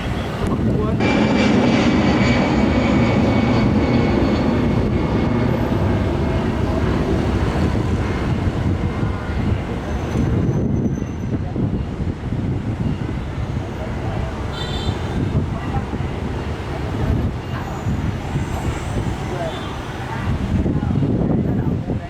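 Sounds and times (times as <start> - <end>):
jet engines roaring: 0.0 - 20.7.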